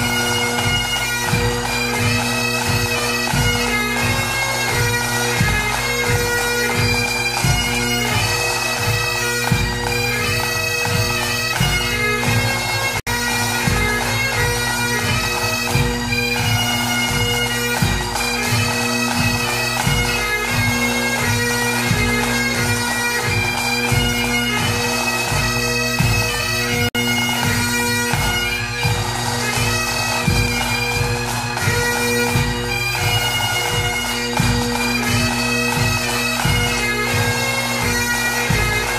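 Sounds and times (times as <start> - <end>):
bagpipe music: 0.0 - 38.9.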